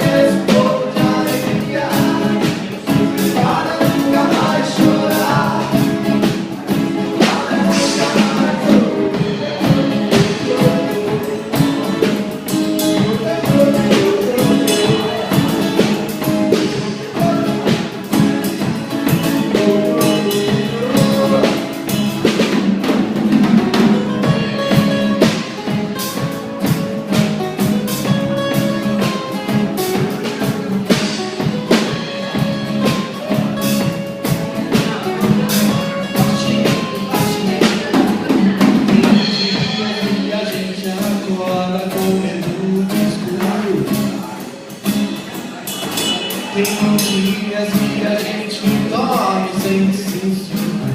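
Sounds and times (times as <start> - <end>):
drum kit and percussion: 0.0 - 50.9.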